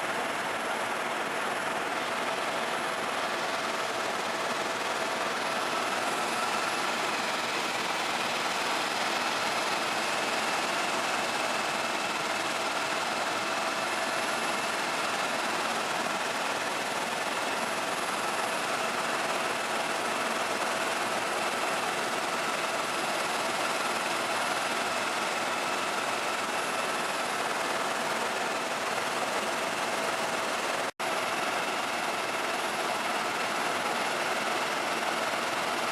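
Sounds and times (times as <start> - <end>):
helicopter engine and rotor noise: 0.0 - 35.9.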